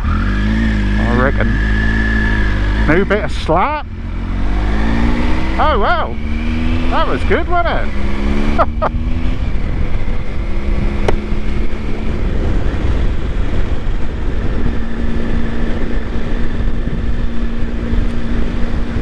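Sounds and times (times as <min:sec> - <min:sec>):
vehicle engine drone: 0:00.0 - 0:19.0
wind rushing over microphone: 0:00.0 - 0:19.0.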